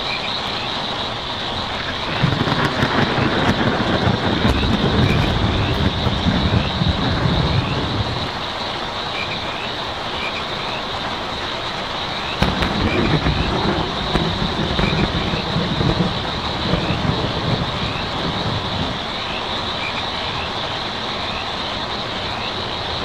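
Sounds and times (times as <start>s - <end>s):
frogs chirping: 0.0s - 23.0s
heavy rain on a tin roof: 0.0s - 23.0s.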